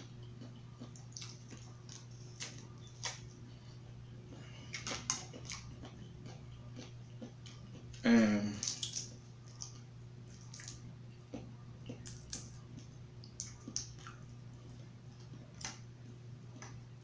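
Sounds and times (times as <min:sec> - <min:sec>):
faint low hum: 0:00.0 - 0:17.0
wet mouth eating sounds: 0:00.1 - 0:03.3, 0:04.7 - 0:15.8.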